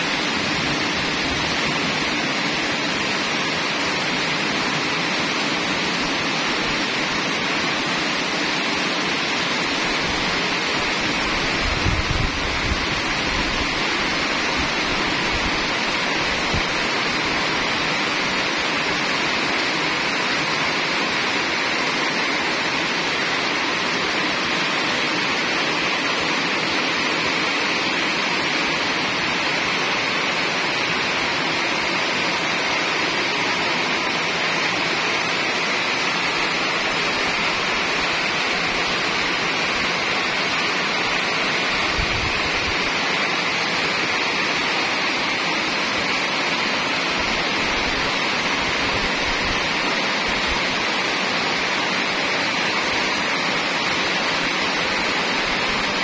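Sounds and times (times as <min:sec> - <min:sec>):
heavy rain on metal roofs: 0:00.0 - 0:56.0.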